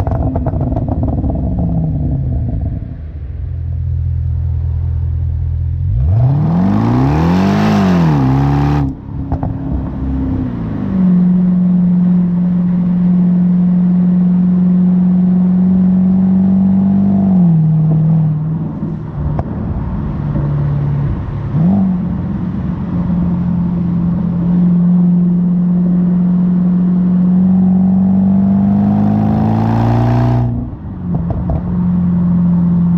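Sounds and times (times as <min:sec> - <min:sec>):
car engine revving: 0:04.3 - 0:32.9.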